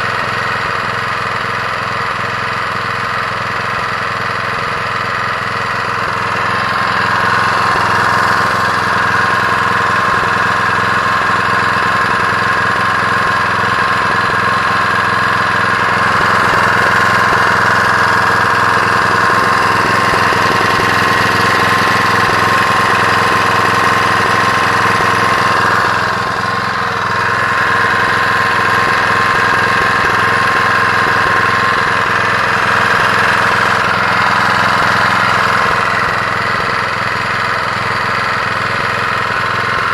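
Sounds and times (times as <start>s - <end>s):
small petrol engine running: 0.0s - 39.9s.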